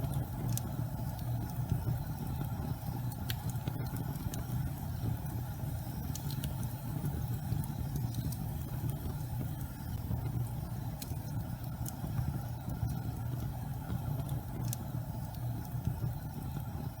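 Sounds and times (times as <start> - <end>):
fire crackling: 0.0 - 17.0
fireplace fire burning: 0.0 - 17.0.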